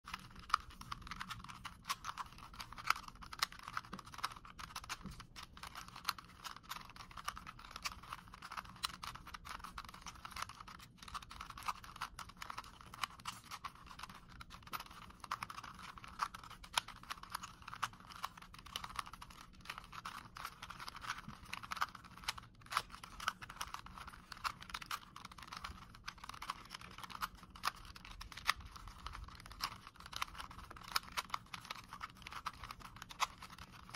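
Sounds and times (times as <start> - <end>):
puzzle cube clicking and rattling: 0.1 - 33.9
puzzle cube snapping: 0.1 - 33.9.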